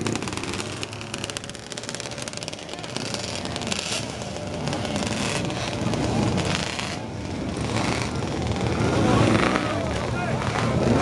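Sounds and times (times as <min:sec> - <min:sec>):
bystanders talking: 0:00.0 - 0:11.0
distant engines: 0:00.0 - 0:11.0
motorcycle engine pulling off: 0:00.0 - 0:11.0.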